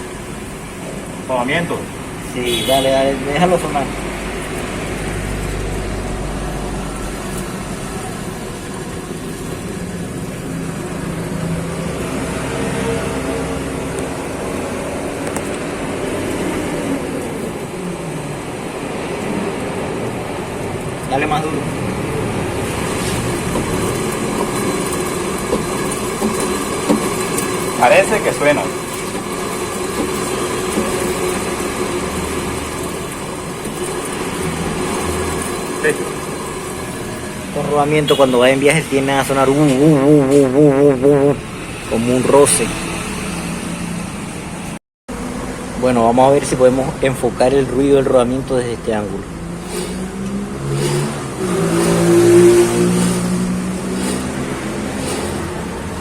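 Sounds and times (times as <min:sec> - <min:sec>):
wheel bearing droning hum: 0:00.0 - 0:56.0.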